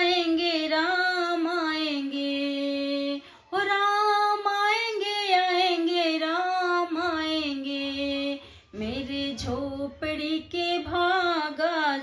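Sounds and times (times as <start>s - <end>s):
woman singing devotional song: 0.0s - 12.0s.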